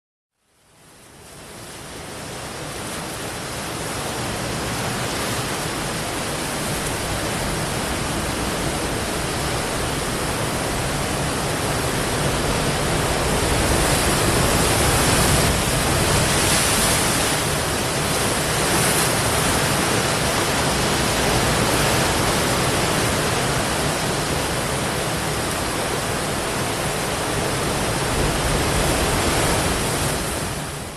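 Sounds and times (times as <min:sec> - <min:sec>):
ocean surf breaking: 0:01.8 - 0:30.9.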